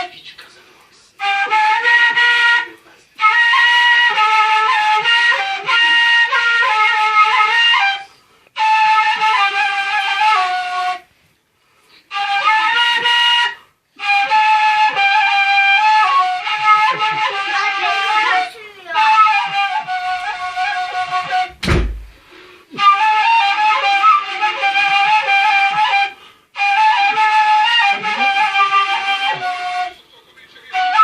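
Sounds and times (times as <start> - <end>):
shepherd's flute folk melody: 0.0 - 31.0.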